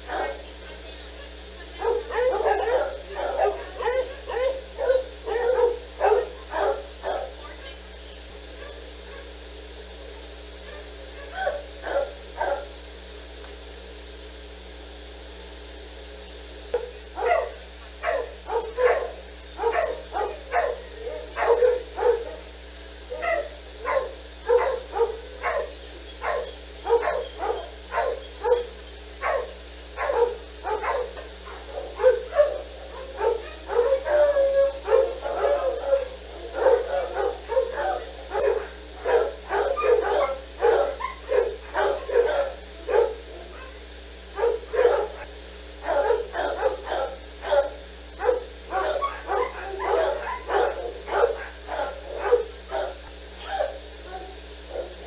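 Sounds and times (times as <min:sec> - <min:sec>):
dog barking: 0:00.0 - 0:00.5, 0:01.3 - 0:07.4, 0:08.6 - 0:09.4, 0:10.6 - 0:12.8, 0:16.8 - 0:22.5, 0:23.1 - 0:55.0.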